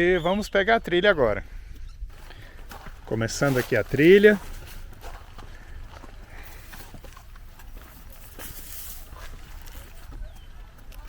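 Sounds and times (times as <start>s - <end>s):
footsteps of people walking: 1.6s - 11.0s.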